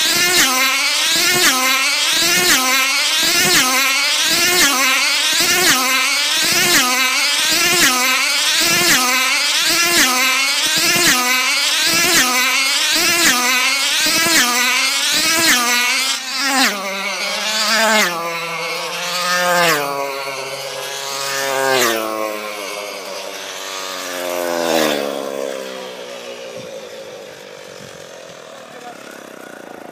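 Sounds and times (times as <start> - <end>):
model car engine passing: 0.0 - 29.9.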